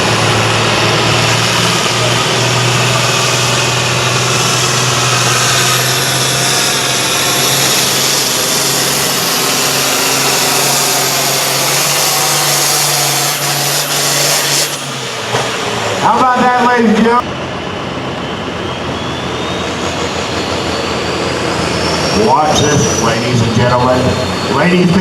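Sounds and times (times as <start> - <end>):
dense high noise: 0.0 - 25.0
tractor engine at high revs: 0.0 - 25.0.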